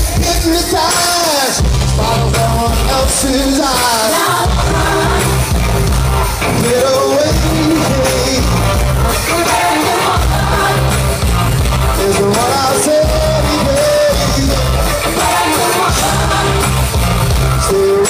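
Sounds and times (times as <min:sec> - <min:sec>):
man singing: 0:00.0 - 0:05.2, 0:06.4 - 0:10.9, 0:11.9 - 0:16.9
bass guitar: 0:00.0 - 0:18.0
drums: 0:00.0 - 0:18.0
electric guitars: 0:00.0 - 0:18.0.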